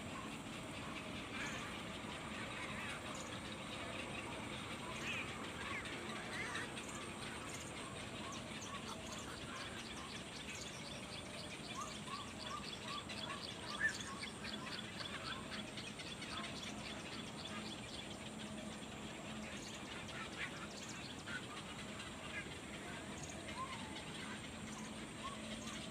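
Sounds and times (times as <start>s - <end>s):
small birds chirping: 0.0s - 25.9s
steady background hiss: 0.0s - 25.9s.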